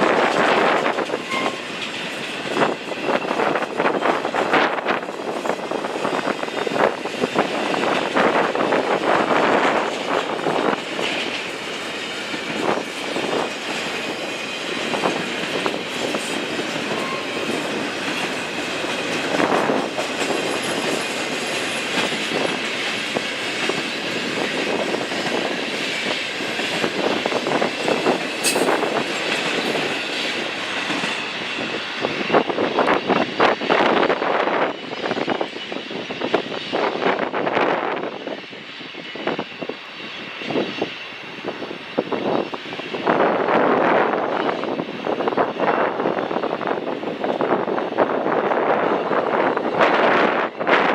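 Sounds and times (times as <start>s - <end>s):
train cars rumbling past: 0.0s - 50.9s
train wheels squealing: 0.6s - 48.2s.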